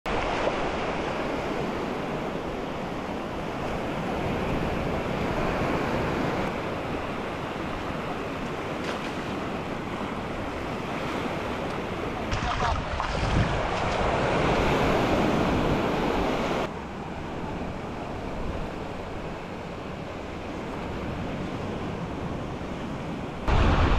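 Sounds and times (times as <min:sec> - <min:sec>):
wind: 0:00.0 - 0:23.9
waves washing onto sandy beach: 0:00.1 - 0:23.9.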